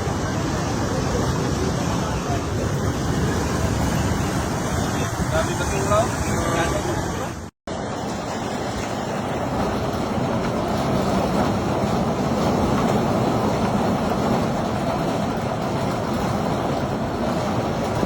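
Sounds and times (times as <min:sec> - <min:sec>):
steady rushing rumble: 0:00.0 - 0:18.0.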